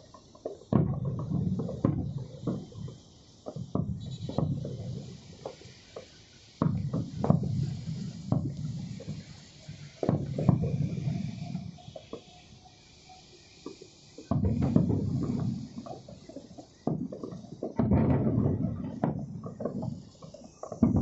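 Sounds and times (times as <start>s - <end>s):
fireworks bangs and crackles: 0.0s - 21.0s
low rumble of fireworks: 0.0s - 21.0s.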